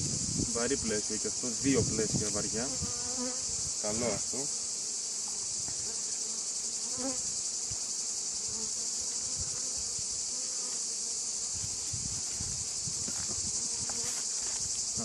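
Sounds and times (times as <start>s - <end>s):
honeybees buzzing: 0.0s - 15.0s
insects shrilling: 0.0s - 15.0s.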